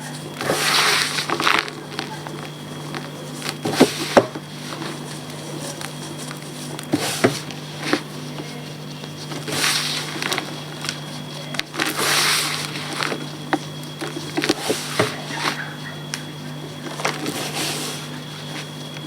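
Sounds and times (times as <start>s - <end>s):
chalk crumbling: 0.0s - 19.0s.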